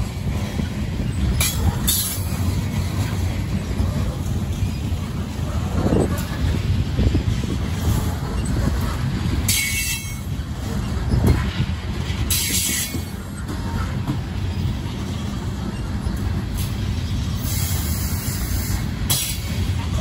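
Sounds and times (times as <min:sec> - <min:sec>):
train wheels rumbling on rail: 0:00.0 - 0:20.0
wheels squealing: 0:00.0 - 0:20.0.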